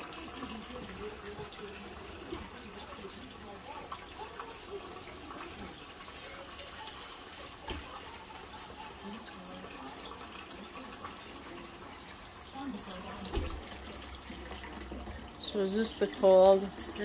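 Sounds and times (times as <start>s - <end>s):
faucet running: 0.0s - 17.0s.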